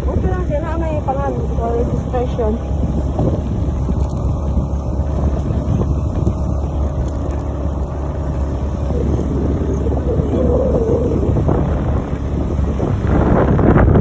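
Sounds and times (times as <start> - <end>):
vehicle engine running: 0.0 - 14.0
wind buffeting microphone: 0.0 - 14.0.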